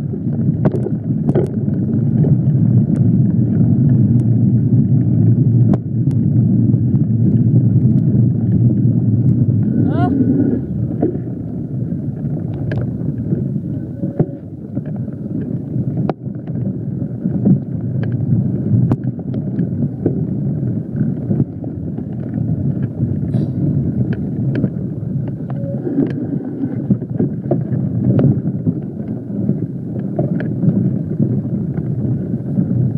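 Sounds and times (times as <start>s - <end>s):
bike tyres rolling on dirt: 0.0s - 32.9s
wind rumbling on microphone: 0.0s - 32.9s.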